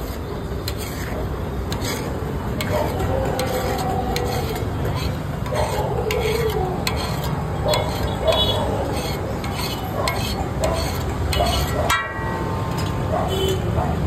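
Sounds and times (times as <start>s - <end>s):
metal utensil scraping a pan: 0.0s - 13.6s.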